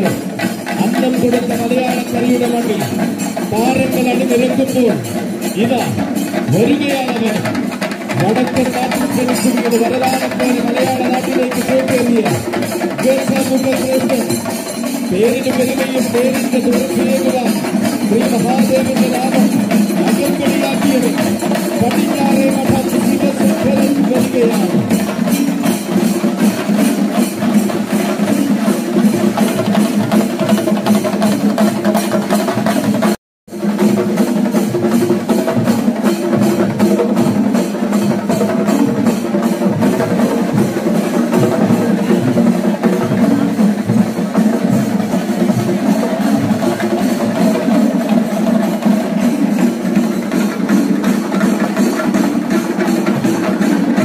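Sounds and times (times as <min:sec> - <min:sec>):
fast loud drumming: 0:00.0 - 0:54.0.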